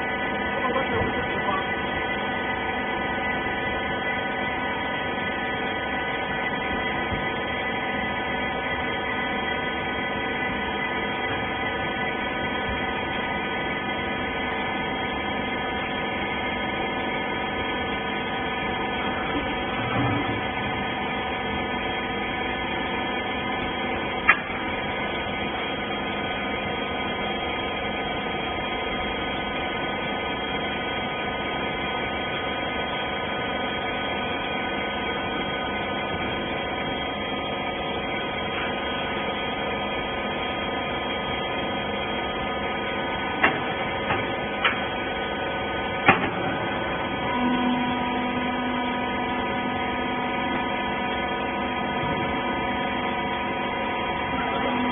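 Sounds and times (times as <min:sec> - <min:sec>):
baler machine hum: 0:00.0 - 0:54.9.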